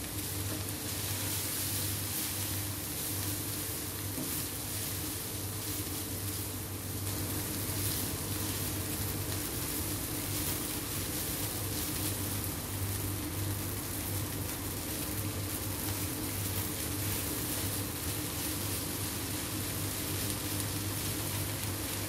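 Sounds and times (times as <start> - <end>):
noodles sizzling in a wok: 0.0 - 22.0.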